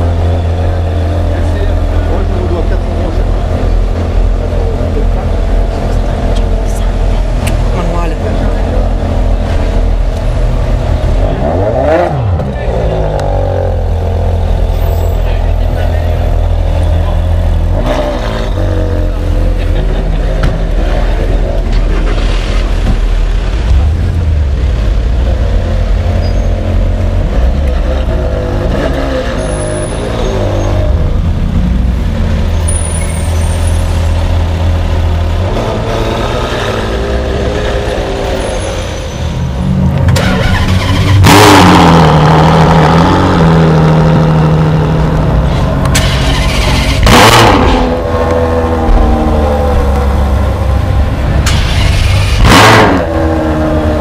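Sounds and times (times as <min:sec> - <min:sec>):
car engine running low speed: 0:00.0 - 0:38.3, 0:39.5 - 0:54.0.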